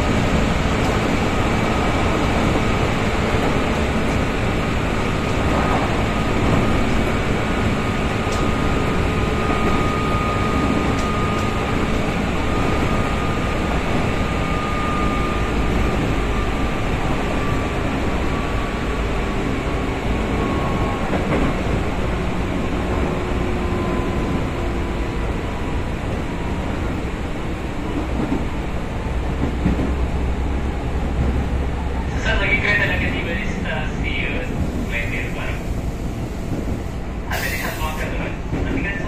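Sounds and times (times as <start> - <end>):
train rail and wheel rumble: 0.0 - 39.0.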